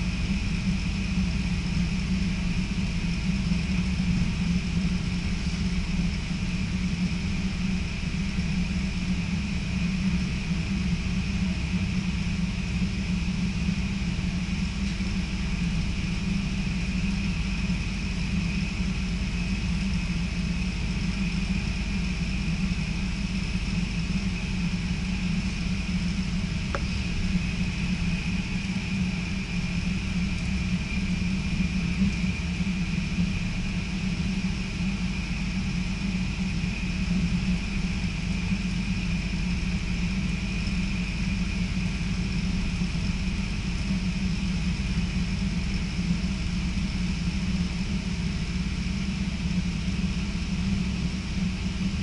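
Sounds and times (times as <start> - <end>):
faint high hum: 0.0 - 52.0
train interior rumble: 0.0 - 52.0.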